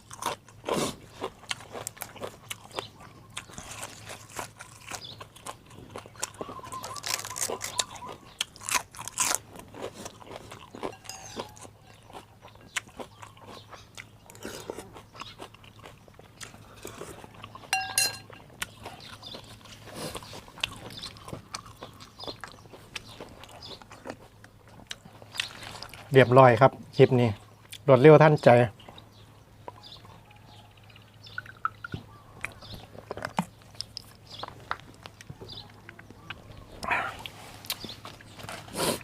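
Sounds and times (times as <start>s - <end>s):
man chewing and crunching: 0.0s - 27.9s, 28.8s - 39.0s.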